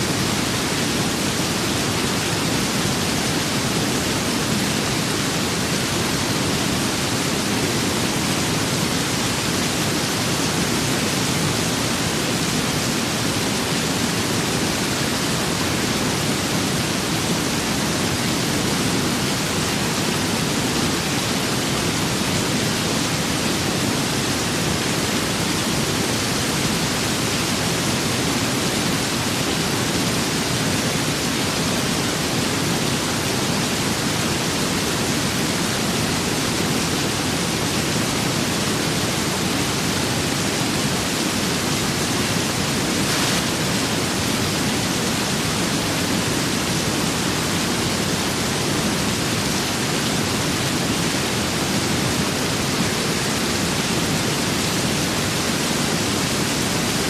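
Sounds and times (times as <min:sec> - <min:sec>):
steady rain: 0:00.0 - 0:57.0
wind: 0:00.0 - 0:57.0.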